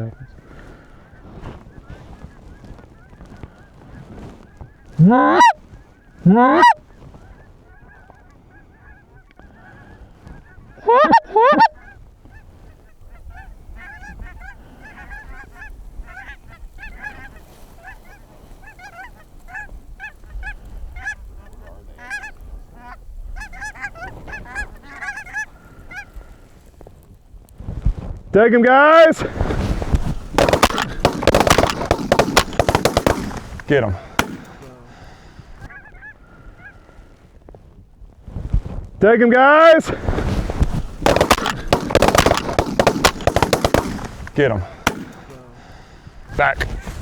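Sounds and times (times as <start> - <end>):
geese honking: 0.0 - 26.2, 29.0 - 36.8, 39.6 - 46.6.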